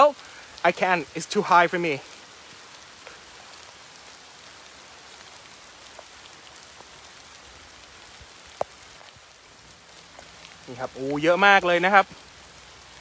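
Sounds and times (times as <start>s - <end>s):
rain falling through trees: 0.0s - 13.0s.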